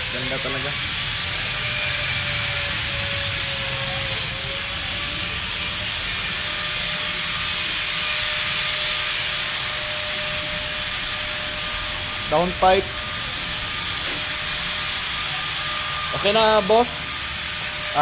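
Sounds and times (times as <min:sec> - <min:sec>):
electric motor whirring: 0:00.0 - 0:18.0.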